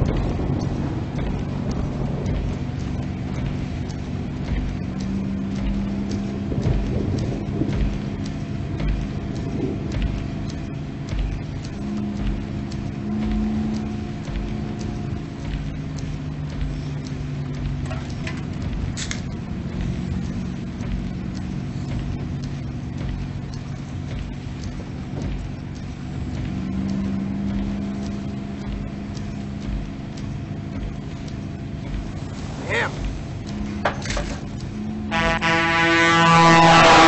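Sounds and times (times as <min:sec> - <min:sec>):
car engine running: 0:00.0 - 0:37.0
road noise: 0:00.0 - 0:37.0.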